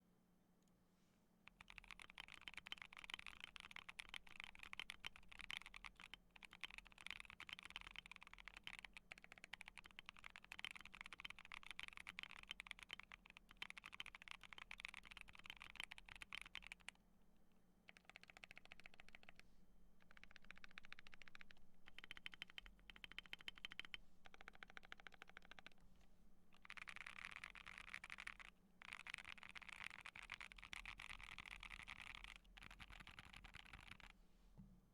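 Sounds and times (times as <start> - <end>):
fast typing on mechanical keyboard: 1.5 - 16.9, 17.9 - 19.4, 20.0 - 25.8, 26.5 - 34.1.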